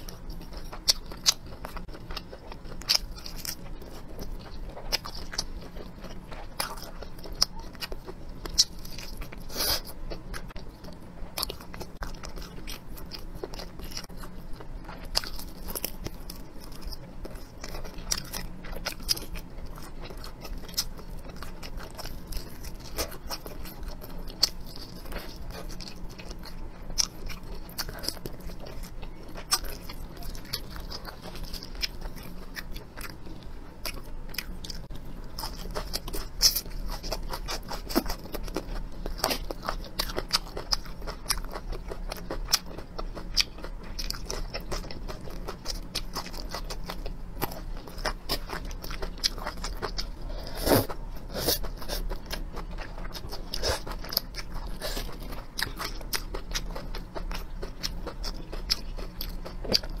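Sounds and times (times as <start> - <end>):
chewing and crunching: 0.0 - 60.0.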